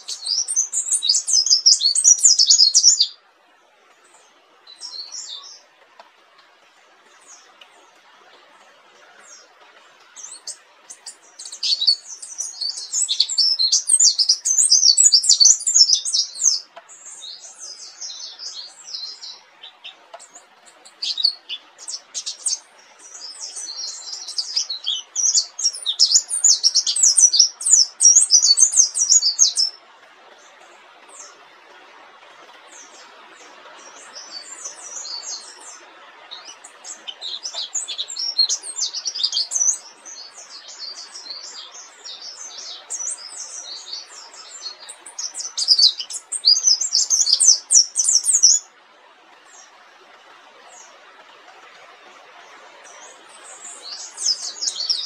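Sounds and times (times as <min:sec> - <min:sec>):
bird singing rapid twittering chirps: 0:00.0 - 0:03.2, 0:04.0 - 0:05.7, 0:09.0 - 0:29.8, 0:32.6 - 0:48.7, 0:52.1 - 0:55.0
faint steady hiss: 0:00.0 - 0:55.0.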